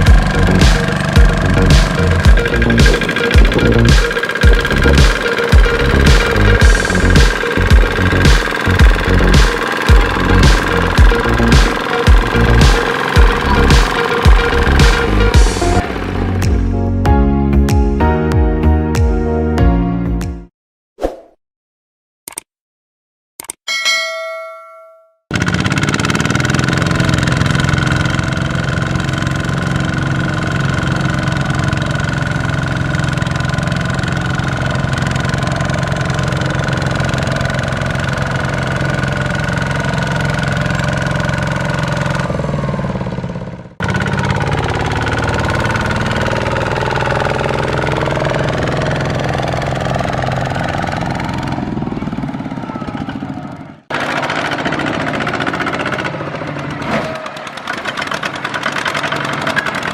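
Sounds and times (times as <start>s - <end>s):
diesel engine running: 0.0s - 17.0s, 25.3s - 59.9s.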